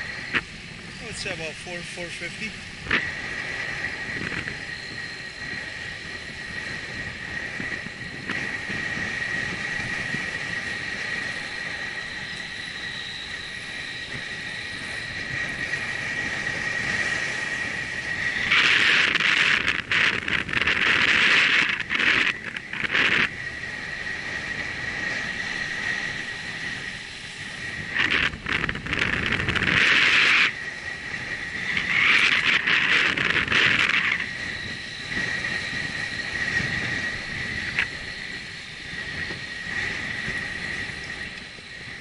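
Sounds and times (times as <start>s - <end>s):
loud hissing rush: 0.0s - 42.0s
steady high whine: 0.0s - 42.0s
wind rushing past microphone: 0.0s - 42.0s.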